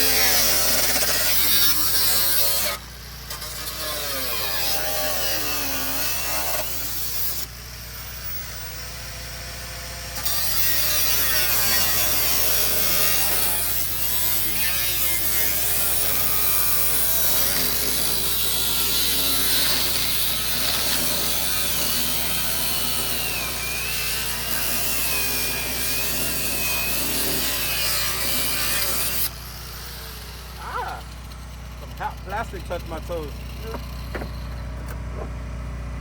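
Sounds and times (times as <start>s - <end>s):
power saw cutting plastic: 0.0s - 36.0s.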